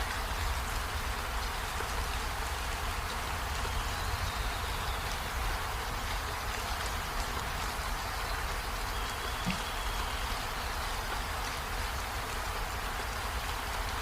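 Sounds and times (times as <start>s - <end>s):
water rushing: 0.0s - 13.9s.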